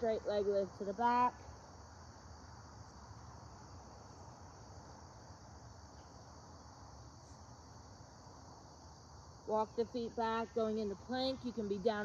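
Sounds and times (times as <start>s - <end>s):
high insect chorus: 0.0s - 12.0s.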